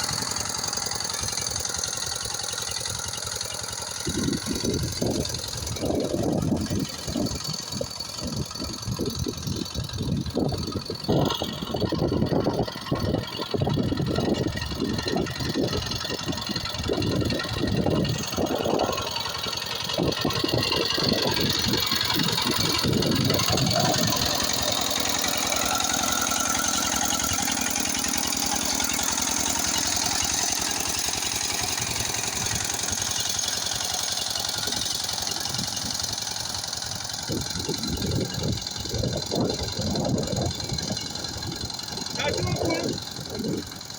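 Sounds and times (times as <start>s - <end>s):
walking tractor engine running: 0.0s - 43.9s.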